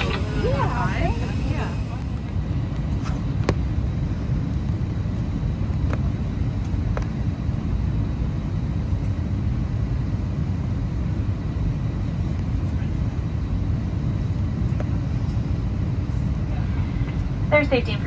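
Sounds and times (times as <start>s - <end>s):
low airplane cabin rumble: 0.0s - 18.0s.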